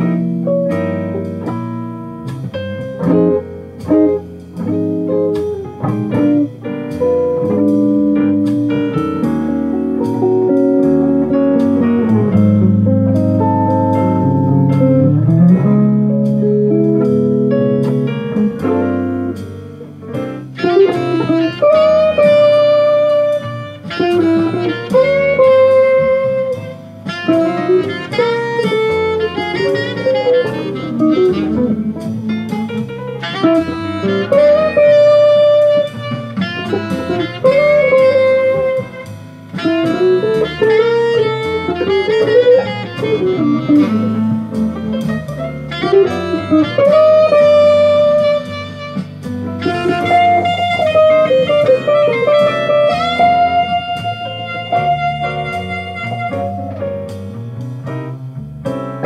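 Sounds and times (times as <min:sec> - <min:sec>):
electric guitar playing jazz: 0:00.0 - 0:59.0.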